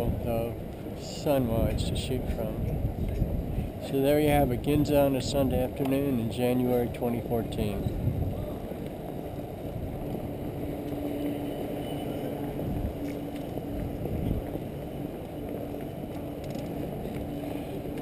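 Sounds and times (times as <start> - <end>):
bicycle rolling noise: 0.0 - 18.0
faint steady hum: 0.0 - 18.0
wind noise: 0.0 - 18.0.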